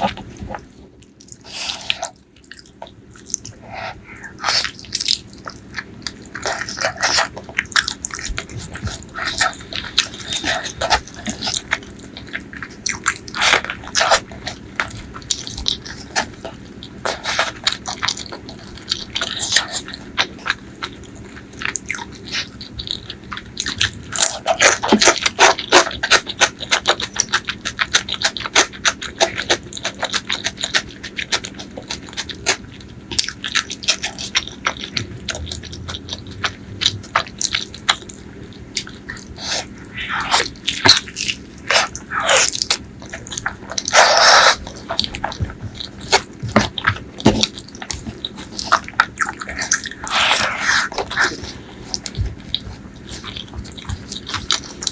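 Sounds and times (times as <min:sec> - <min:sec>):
close chewing and biting: 0:00.0 - 0:54.9.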